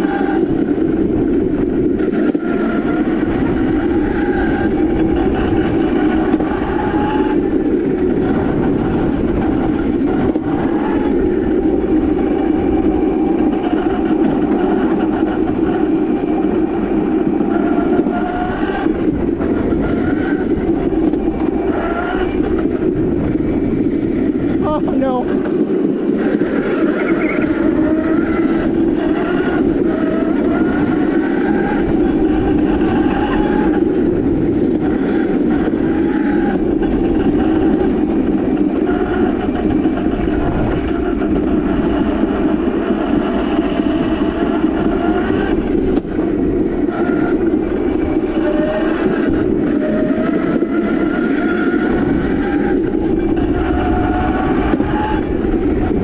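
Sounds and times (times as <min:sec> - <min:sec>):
electric motor whine: 0:00.0 - 0:56.0
rolling rumble: 0:00.0 - 0:56.0.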